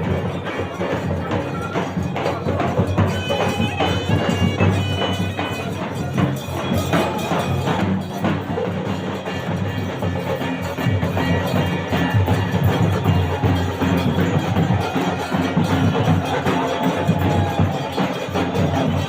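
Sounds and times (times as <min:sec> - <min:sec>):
dhol drum beating rhythm: 0:00.0 - 0:19.0
shehnai reedy melody: 0:00.0 - 0:19.0.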